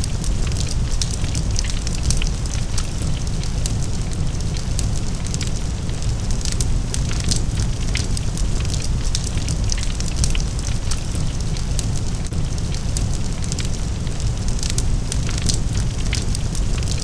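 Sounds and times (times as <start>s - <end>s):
large fire crackling: 0.0s - 17.0s.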